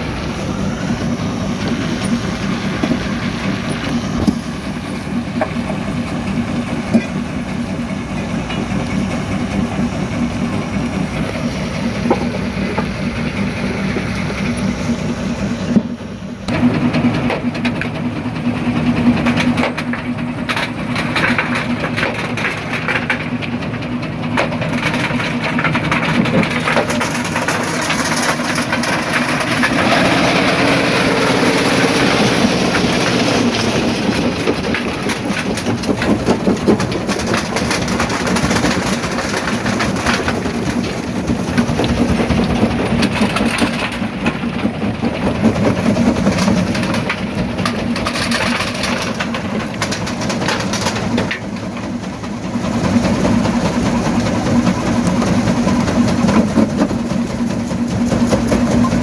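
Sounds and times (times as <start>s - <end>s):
jaw crusher machine drone: 0.0s - 59.0s.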